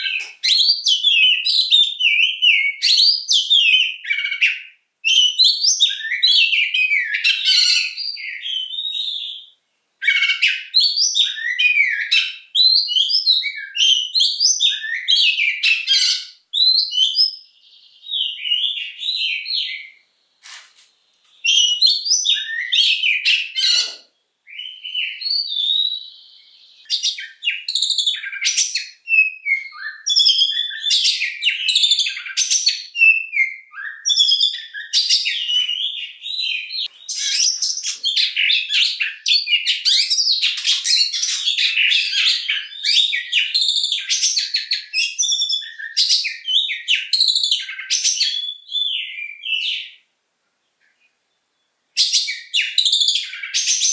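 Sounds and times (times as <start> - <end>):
songbird singing whistles and trills: 0.0 - 20.4, 21.3 - 50.1, 50.9 - 53.9.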